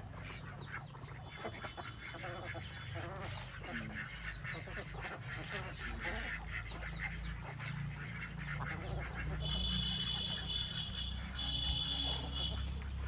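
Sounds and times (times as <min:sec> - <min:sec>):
ducks or geese calling: 0:00.2 - 0:13.0.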